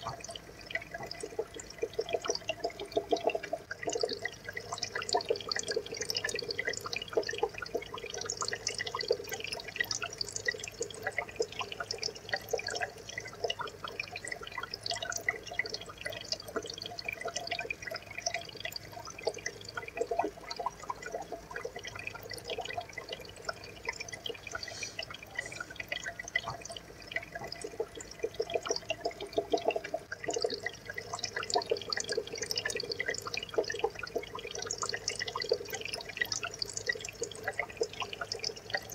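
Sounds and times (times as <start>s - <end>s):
aquarium water bubbling: 0.0s - 38.9s.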